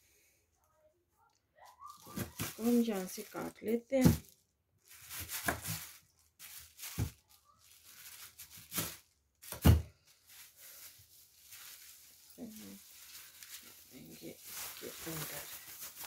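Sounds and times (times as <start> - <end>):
plastic bag rustling: 1.6 - 16.0.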